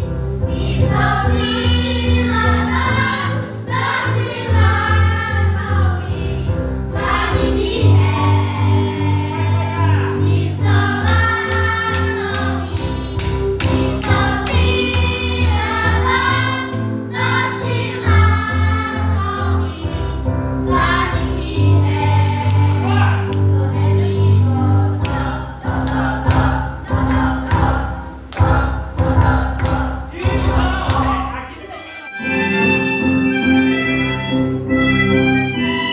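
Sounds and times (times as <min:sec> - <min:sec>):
choir singing: 0:00.4 - 0:32.2.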